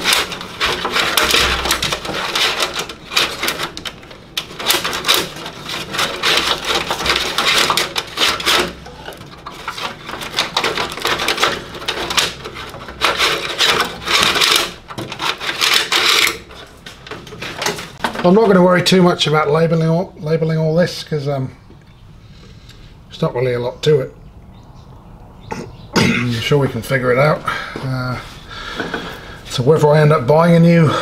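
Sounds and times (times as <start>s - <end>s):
wires rustling and scraping on metal: 0.0s - 24.0s, 25.7s - 31.0s.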